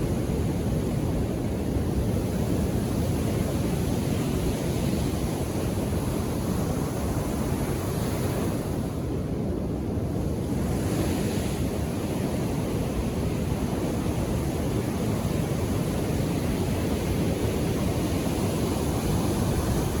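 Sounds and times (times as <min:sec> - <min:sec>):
ocean waves washing onto beach: 0:00.0 - 0:20.0.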